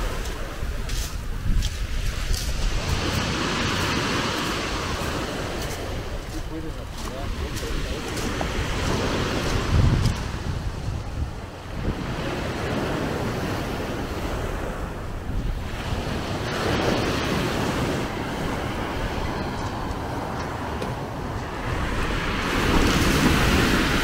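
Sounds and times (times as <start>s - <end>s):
sea waves breaking on shore: 0.0s - 24.0s
wind buffeting microphone: 0.0s - 24.0s.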